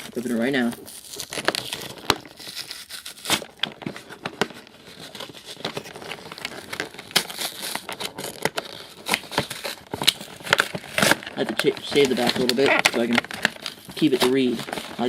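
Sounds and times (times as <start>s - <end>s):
toy box packaging tearing: 0.0s - 15.0s.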